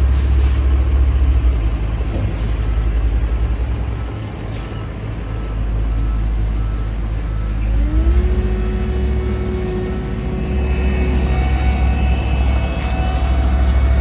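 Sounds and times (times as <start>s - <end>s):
heavy diesel engines rumbling: 0.0s - 14.0s.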